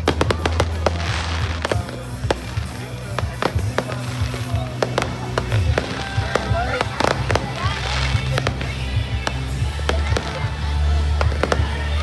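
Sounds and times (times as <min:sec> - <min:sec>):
firework hissing burst: 0:00.0 - 0:10.6
fireworks banging and crackling: 0:00.0 - 0:12.0
music: 0:00.0 - 0:12.0.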